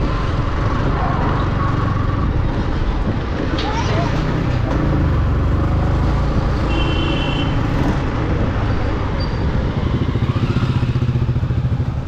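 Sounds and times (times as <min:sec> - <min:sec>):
wind rush on microphone: 0:00.0 - 0:12.0.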